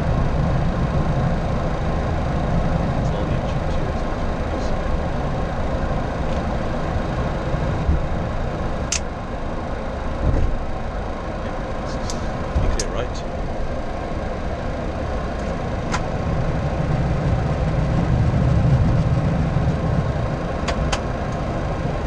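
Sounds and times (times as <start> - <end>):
jet engines running at low power: 0.0 - 22.0.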